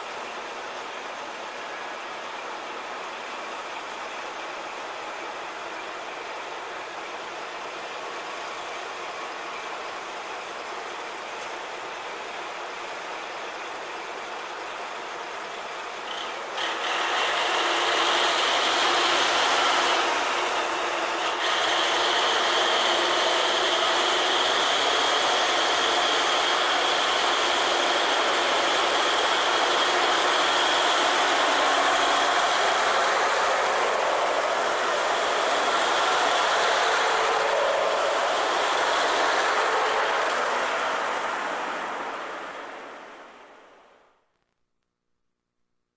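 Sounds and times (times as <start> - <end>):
train running on rails: 0.0 - 43.8.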